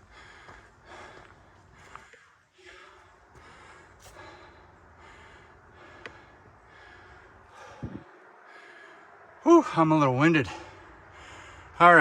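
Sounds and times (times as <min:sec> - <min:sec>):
man breathing heavily: 0:00.0 - 0:09.4, 0:10.4 - 0:12.0.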